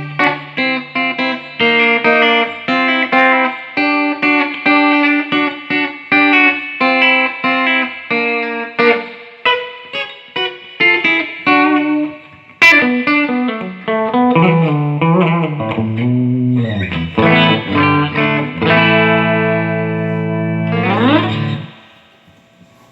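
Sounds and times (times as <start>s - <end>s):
electric guitar playing: 0.0s - 22.9s.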